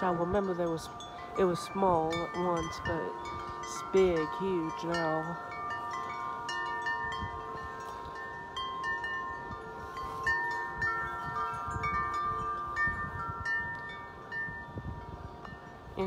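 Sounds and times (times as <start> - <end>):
wind chimes ringing: 0.0 - 16.0
wind gusts on microphone: 0.0 - 16.0.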